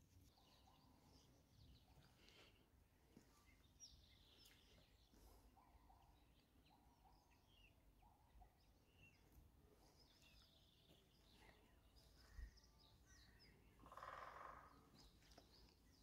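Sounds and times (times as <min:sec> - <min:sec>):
faint bird chirps and calls: 0:00.0 - 0:16.0.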